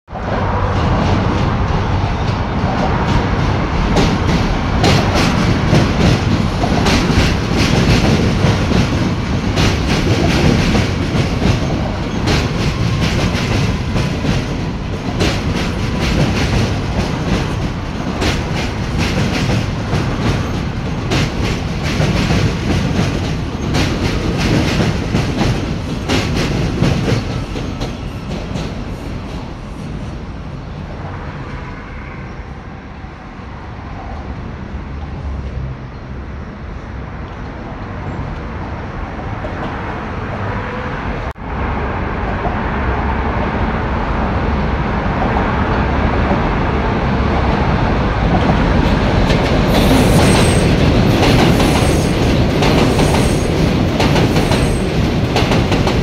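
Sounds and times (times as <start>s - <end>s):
subway train rumbling over tracks: 0.1s - 56.0s.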